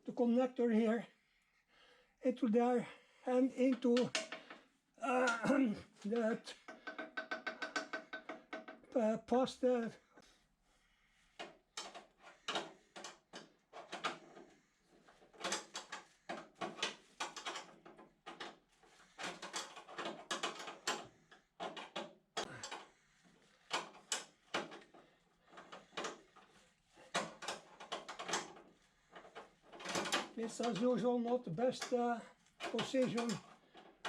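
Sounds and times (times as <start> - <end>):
hand work on metal parts: 3.4 - 10.4, 11.2 - 34.0.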